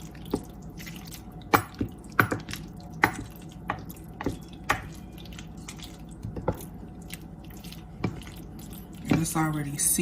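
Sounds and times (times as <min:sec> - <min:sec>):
wet squelching of stirred pasta: 0:00.0 - 0:10.0.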